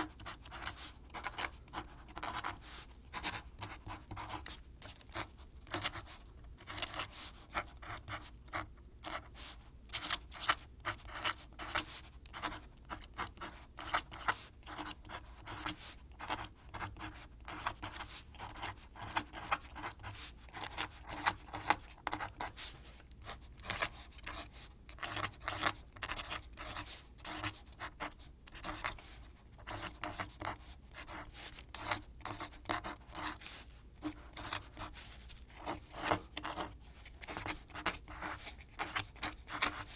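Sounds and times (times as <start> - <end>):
close scratching and tapping: 0.0 - 39.9.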